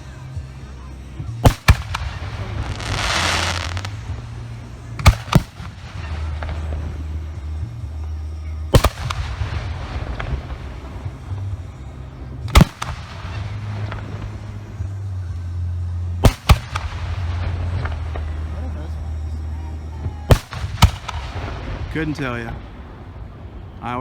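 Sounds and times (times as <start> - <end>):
firework hissing: 0.0 - 23.8
firework shells bursting: 1.2 - 15.0, 16.2 - 19.5, 20.3 - 23.3.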